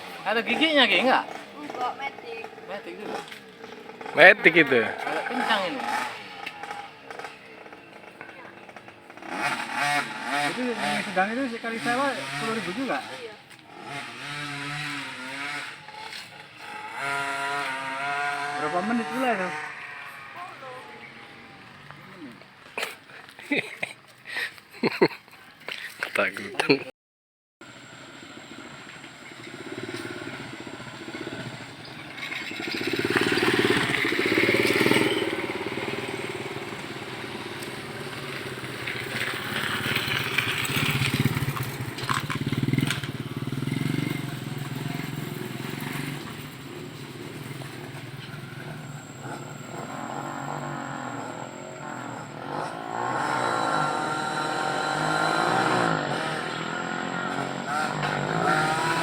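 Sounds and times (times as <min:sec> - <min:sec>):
motorcycle engine running: 0:00.0 - 0:22.7, 0:27.6 - 0:59.0.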